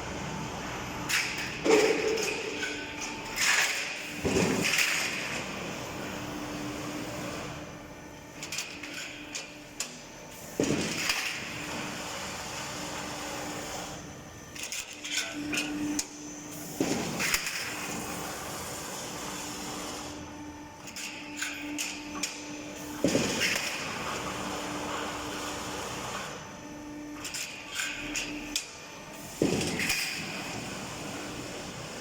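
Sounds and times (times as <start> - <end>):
roll forming machine humming: 0.0 - 32.0.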